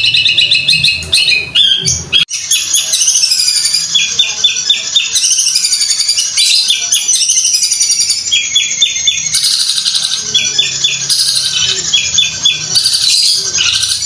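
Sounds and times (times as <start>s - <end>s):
shrike singing chattering notes: 0.0s - 14.0s.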